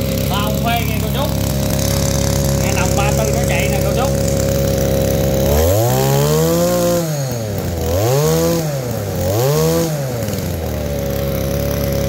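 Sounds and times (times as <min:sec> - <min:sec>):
brush cutter engine revving: 0:00.0 - 0:12.0.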